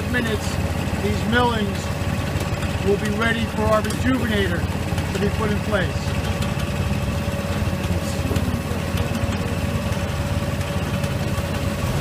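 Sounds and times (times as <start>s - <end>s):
machine engine idling: 0.0s - 12.0s.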